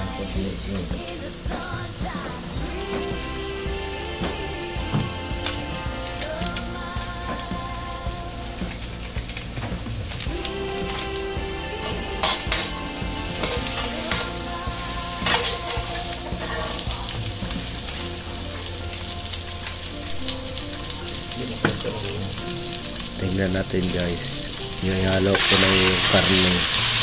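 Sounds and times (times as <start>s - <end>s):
onion and garlic sizzling in oil: 0.0s - 27.0s.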